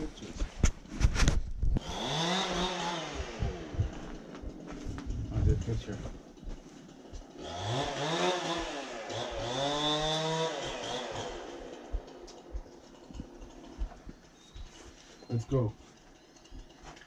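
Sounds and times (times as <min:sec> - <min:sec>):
engine revving: 0:01.7 - 0:15.6.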